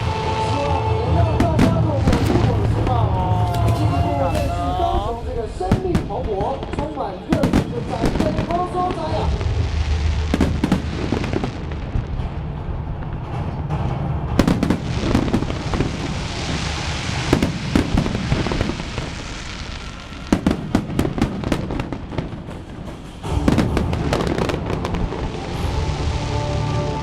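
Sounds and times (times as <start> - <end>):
fireworks bangs: 0.0 - 26.3
fireworks crackling hiss: 1.4 - 12.0, 14.4 - 27.0.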